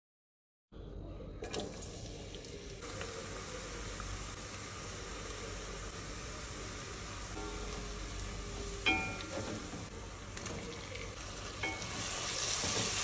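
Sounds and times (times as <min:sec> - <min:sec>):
onions sizzling in oil: 0:01.9 - 0:13.0.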